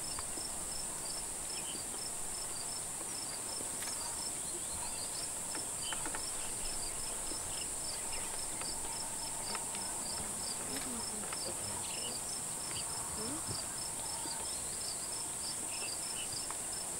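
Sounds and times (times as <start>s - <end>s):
regular insect chirp: 0.0s - 16.9s.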